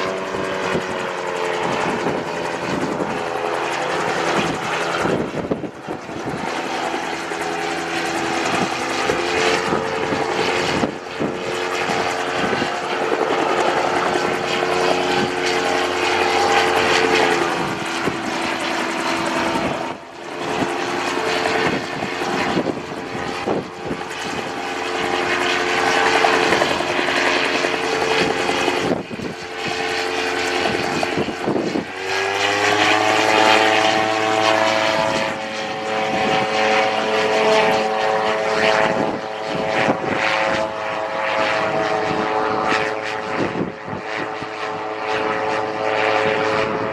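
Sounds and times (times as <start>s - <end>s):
gyroplane engine and propeller drone: 0.0s - 46.9s.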